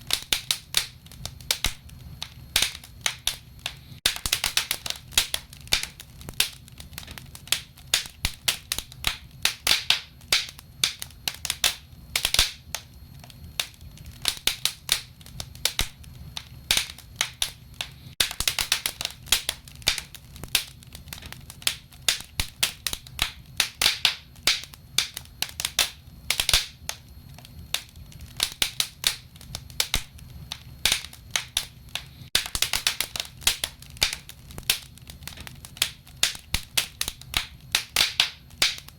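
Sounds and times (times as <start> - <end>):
burning wood crackling: 0.0 - 38.9.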